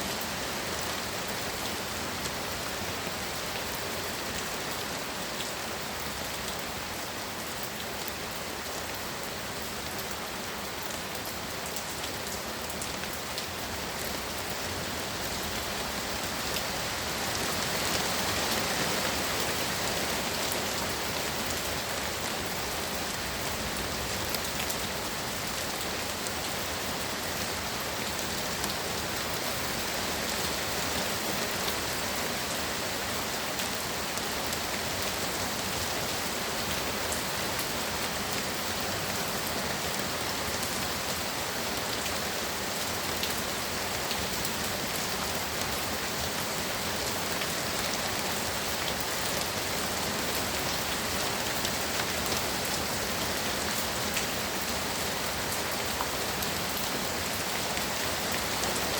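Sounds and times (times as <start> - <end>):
heavy rain pouring: 0.0 - 58.9.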